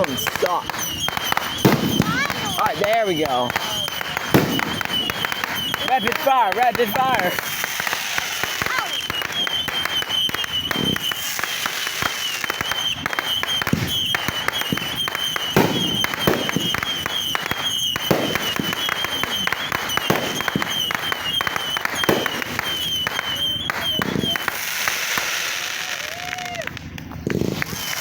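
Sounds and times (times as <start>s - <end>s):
fireworks bangs: 0.0s - 28.0s
fireworks crackling and popping: 0.0s - 28.0s.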